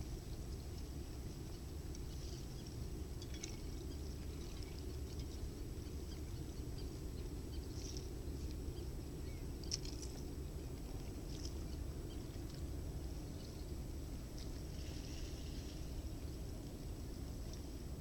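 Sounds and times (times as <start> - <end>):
low rumble of water and air: 0.0 - 18.0.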